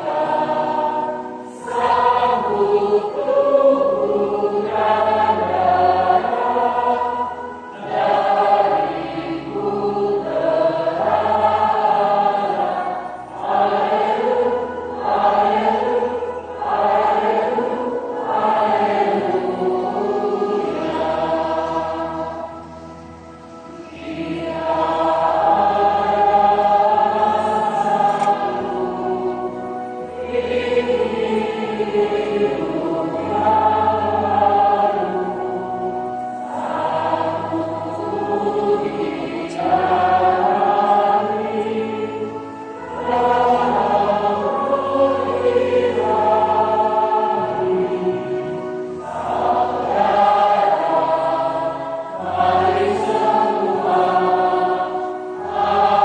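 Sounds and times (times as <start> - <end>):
choir and congregation singing hymn: 0.0 - 56.0.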